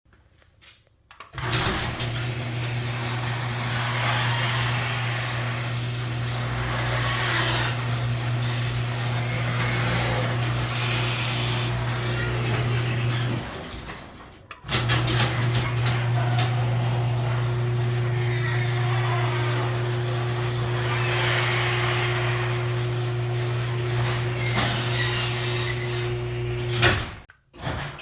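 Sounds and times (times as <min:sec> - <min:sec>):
garage door opener running: 0:01.3 - 0:28.0.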